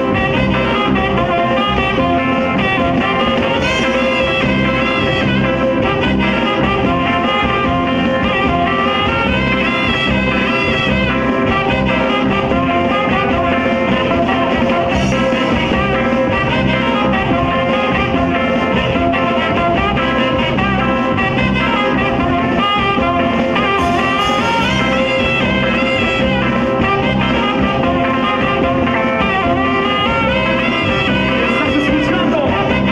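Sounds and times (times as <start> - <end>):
dance band playing: 0.0 - 32.9
saxophone section melody: 0.0 - 32.9.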